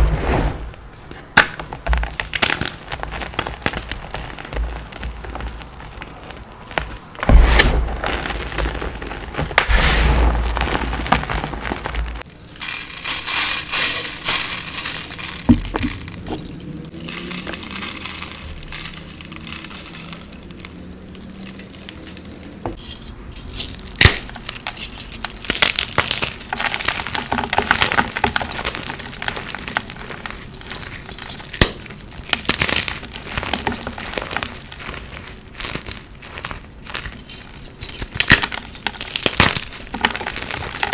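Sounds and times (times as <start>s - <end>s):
hands crushing chalk: 1.0s - 40.9s.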